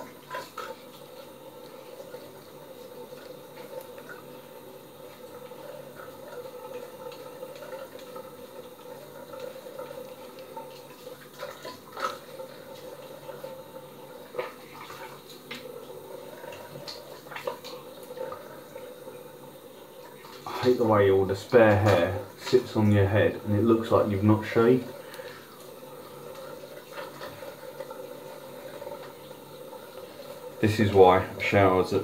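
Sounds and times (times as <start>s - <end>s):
water running from tap into sink: 0.0s - 32.0s.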